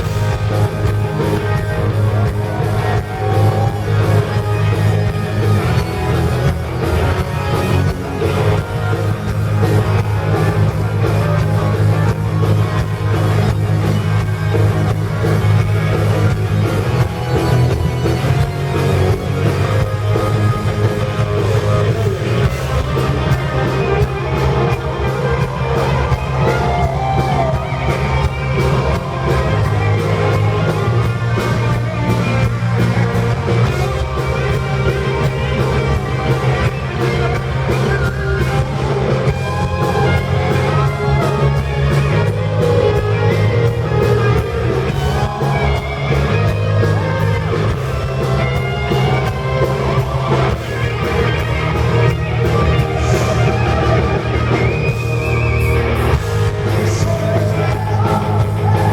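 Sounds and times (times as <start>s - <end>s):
bass guitar: 0.0s - 58.9s
drum kit: 0.0s - 58.9s
electric guitar: 0.0s - 58.9s.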